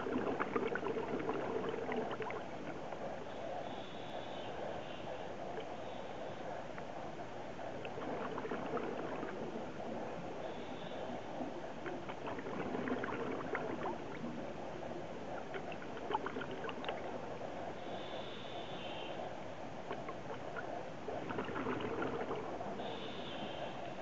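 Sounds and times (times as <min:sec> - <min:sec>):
muffled underwater rush: 0:00.0 - 0:24.0.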